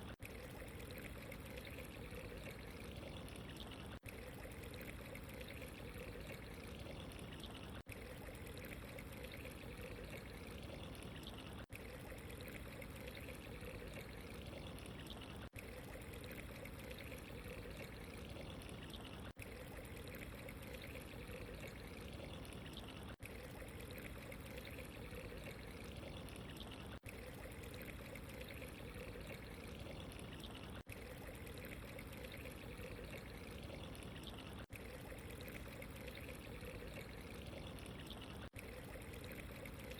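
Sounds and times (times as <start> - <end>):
trickling running water: 0.0 - 39.9.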